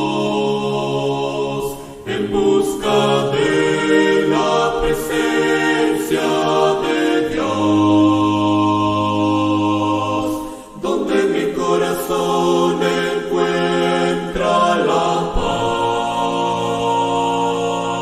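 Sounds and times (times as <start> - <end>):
group worship singing: 0.0 - 18.0.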